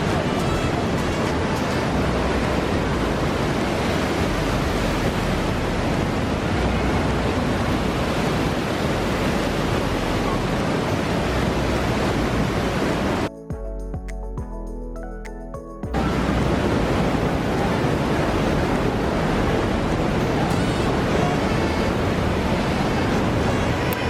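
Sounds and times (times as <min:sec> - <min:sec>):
waterfall rushing: 0:00.0 - 0:13.3, 0:16.0 - 0:24.0.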